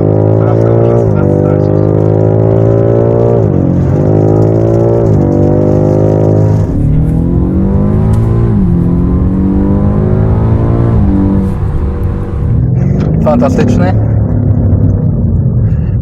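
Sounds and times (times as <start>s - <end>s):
car engine accelerating through gears: 0.0s - 15.7s.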